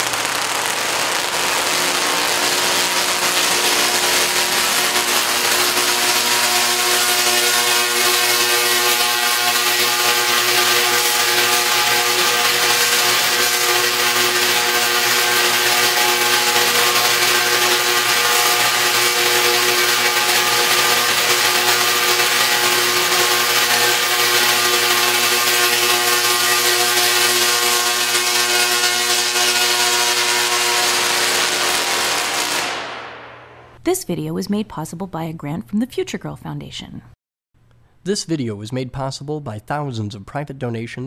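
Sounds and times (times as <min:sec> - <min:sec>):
sizzling hiss of arcs: 0:00.0 - 0:33.8
tesla coils buzzing: 0:00.0 - 0:33.8.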